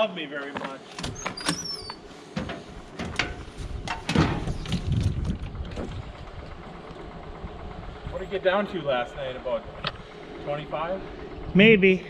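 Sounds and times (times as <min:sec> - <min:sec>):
diesel engine cranking and rumbling: 0:00.6 - 0:12.0.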